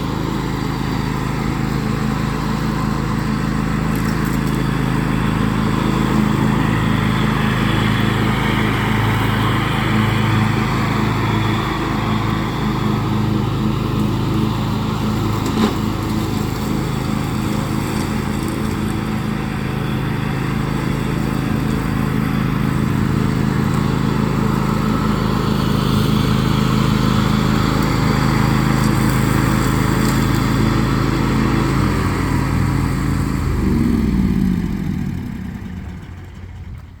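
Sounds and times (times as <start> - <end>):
lawn tractor engine running: 0.0 - 37.0.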